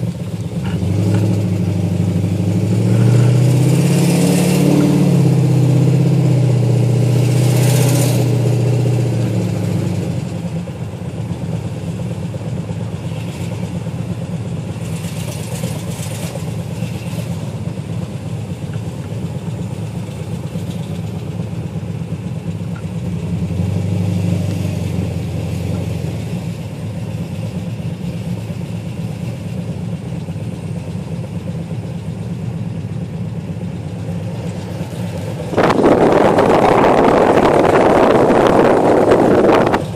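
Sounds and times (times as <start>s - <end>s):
car engine idling and revving: 0.0s - 39.9s
engine ticking: 0.0s - 39.9s.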